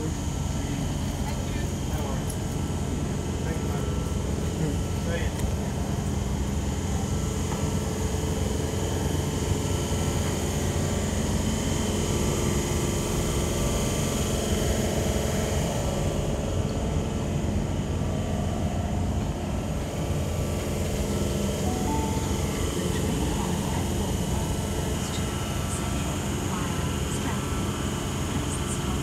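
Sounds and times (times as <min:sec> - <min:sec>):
electric train humming: 0:00.0 - 0:29.0.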